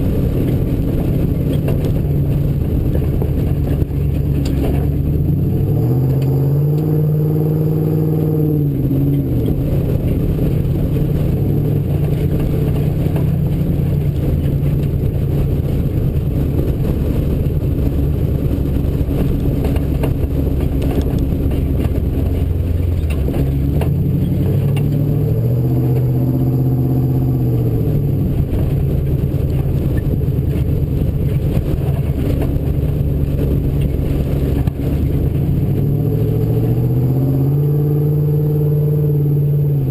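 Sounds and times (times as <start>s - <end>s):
vehicle rattling and knocking: 0.0s - 6.8s, 8.2s - 37.9s
truck engine running hard: 0.0s - 39.9s.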